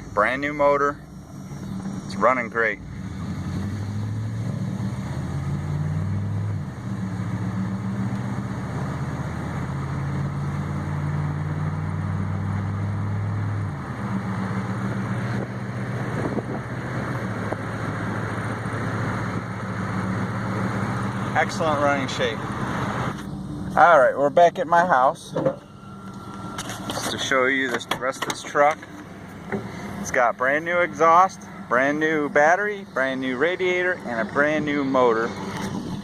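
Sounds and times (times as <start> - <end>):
pickup truck engine accelerating: 0.0 - 36.0.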